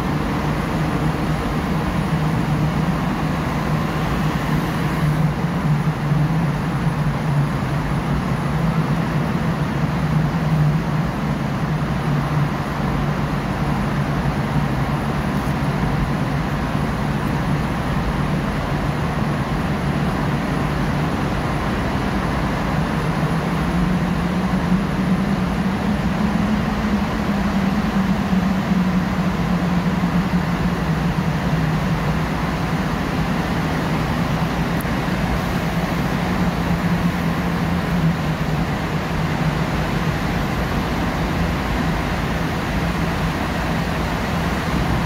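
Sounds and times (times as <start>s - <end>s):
car engine hum: 0.0s - 45.0s.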